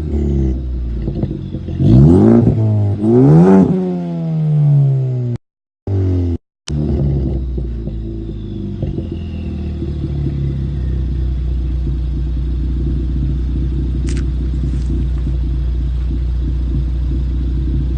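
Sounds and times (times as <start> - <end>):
car engine idling: 0.0 - 3.4, 6.8 - 17.9.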